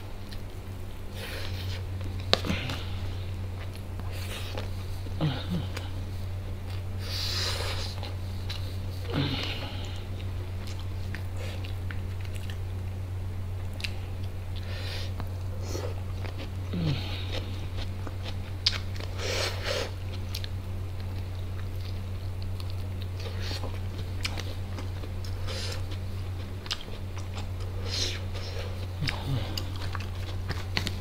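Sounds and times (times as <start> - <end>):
low hum: 0.0 - 31.0
close-miked chewing: 0.2 - 31.0.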